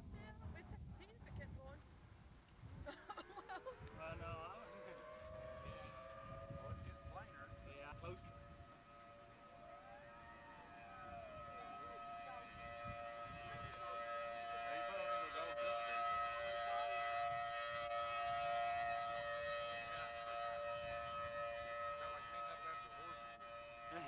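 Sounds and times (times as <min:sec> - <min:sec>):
two-tone warning siren wail: 0:03.1 - 0:24.0.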